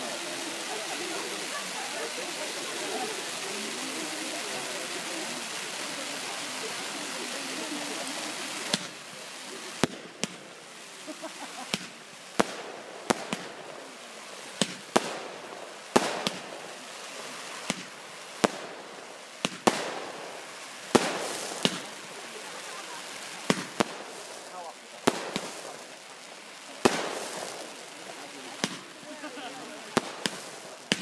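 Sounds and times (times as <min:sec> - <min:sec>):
fireworks banging: 0:00.0 - 0:31.0
steady hiss: 0:00.0 - 0:31.0.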